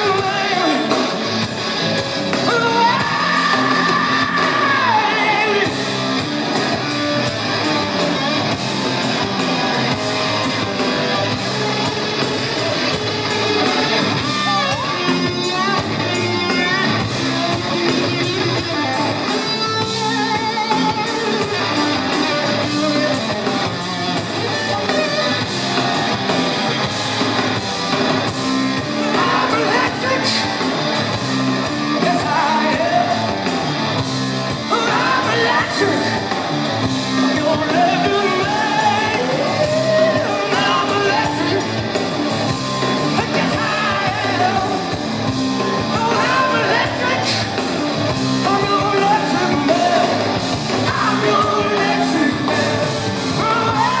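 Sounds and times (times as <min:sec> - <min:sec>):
bass guitar: 0:00.0 - 0:54.0
drums and cymbals: 0:00.0 - 0:54.0
electric guitar lead: 0:00.0 - 0:54.0.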